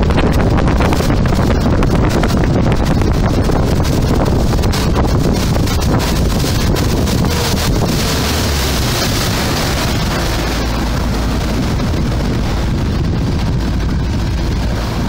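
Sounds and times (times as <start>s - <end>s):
boat motor noise: 0.0s - 15.0s
water rushing along hull: 0.0s - 15.0s
wind buffeting microphone: 0.0s - 15.0s.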